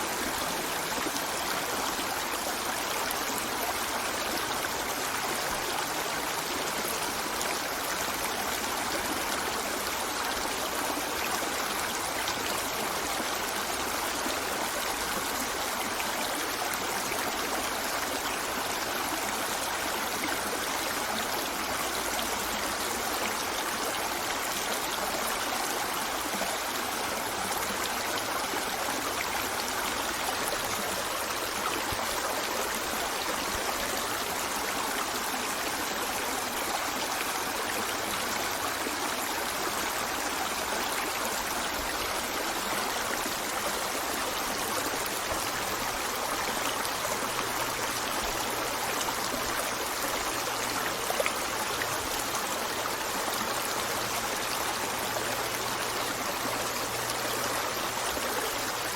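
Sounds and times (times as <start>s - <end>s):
river running over stones: 0.0s - 58.9s.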